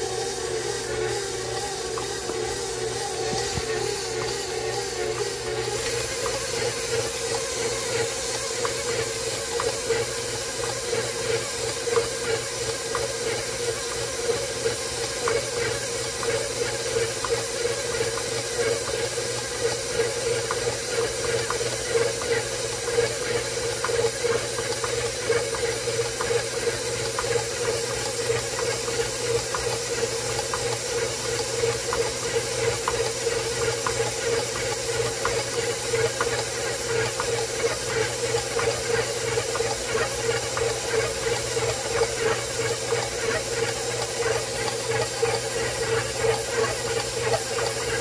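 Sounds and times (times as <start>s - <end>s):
stand mixer kneading dough: 0.0s - 48.0s.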